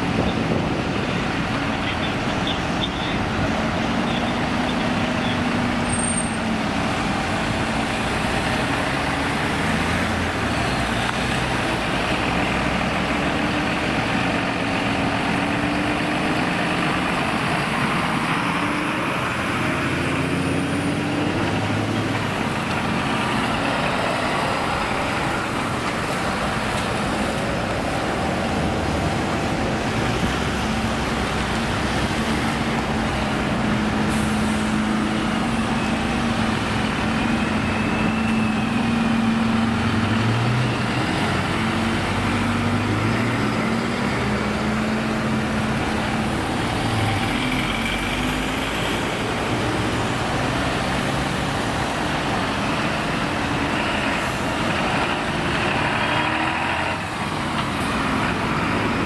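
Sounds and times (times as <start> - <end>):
fire trucks accelerating past: 0.0 - 59.0.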